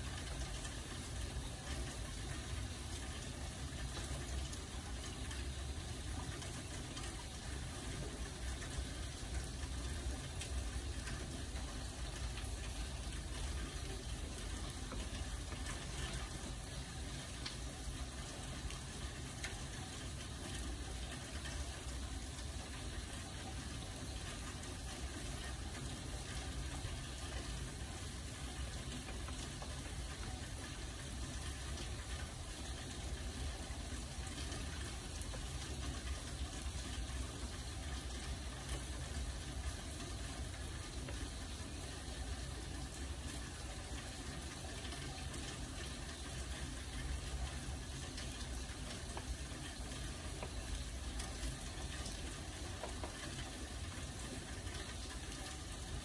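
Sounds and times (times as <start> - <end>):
faint raindrop ticks: 0.0 - 56.0
steady rain hiss: 0.0 - 56.0.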